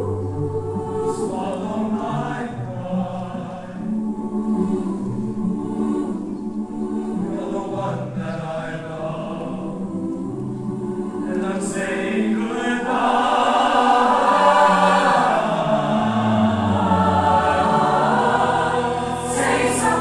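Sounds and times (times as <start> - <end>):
mixed choir singing in harmony: 0.0 - 20.0.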